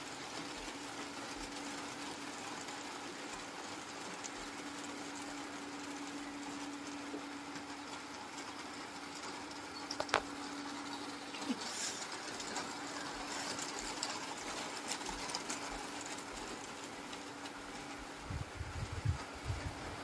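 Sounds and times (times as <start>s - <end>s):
faint steady hum: 0.0s - 20.0s
heavy rain falling: 0.0s - 20.0s.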